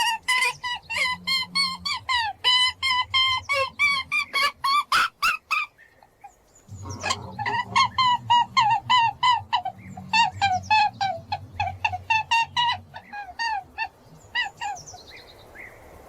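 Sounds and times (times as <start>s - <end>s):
high squeaking animal calls: 0.0s - 15.1s
low steady hum: 0.0s - 16.0s.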